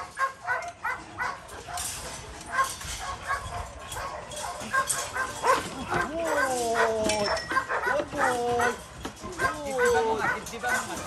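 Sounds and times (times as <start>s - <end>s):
dog barking: 0.0s - 1.8s, 2.5s - 8.8s, 9.4s - 11.0s.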